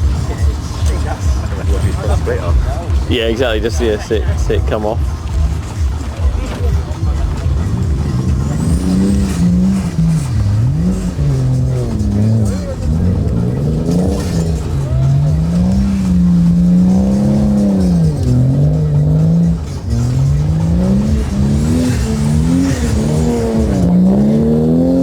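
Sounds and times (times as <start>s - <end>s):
car engine revving: 0.0s - 25.0s
tyres squealing: 0.0s - 25.0s.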